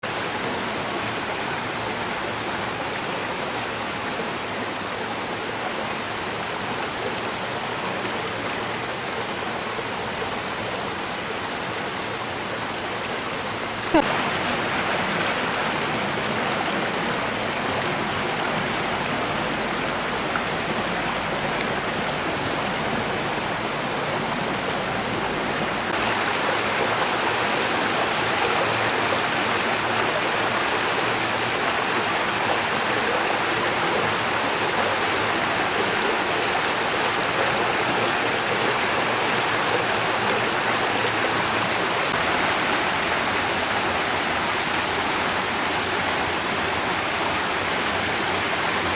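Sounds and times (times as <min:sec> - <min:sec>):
stream of flowing water: 0:00.0 - 0:48.9.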